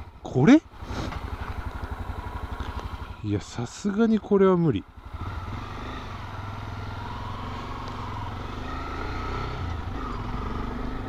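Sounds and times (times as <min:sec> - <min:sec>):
motorcycle engine low rumble: 0:00.0 - 0:11.0.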